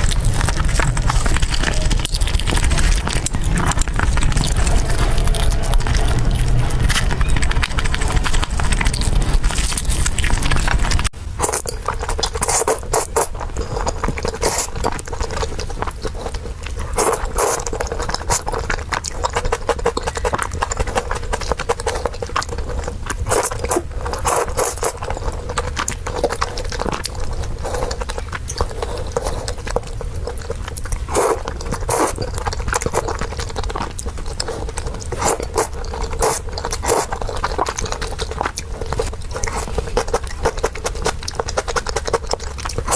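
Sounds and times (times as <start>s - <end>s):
rapid chewing with mouth smacks: 0.0s - 42.9s.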